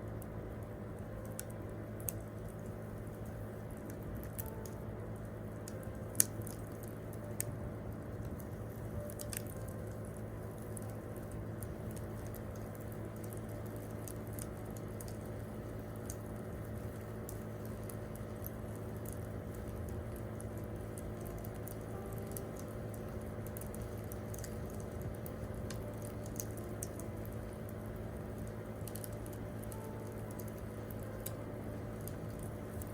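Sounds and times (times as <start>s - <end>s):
campfire crackling and popping: 0.0s - 32.9s
low steady hum: 0.0s - 32.9s.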